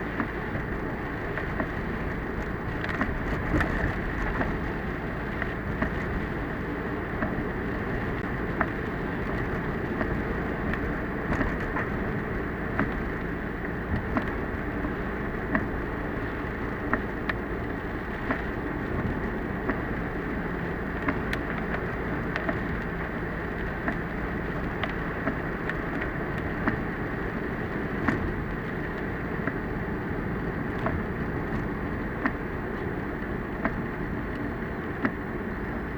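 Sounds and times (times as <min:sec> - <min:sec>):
rain and road noise: 0:00.0 - 0:35.9.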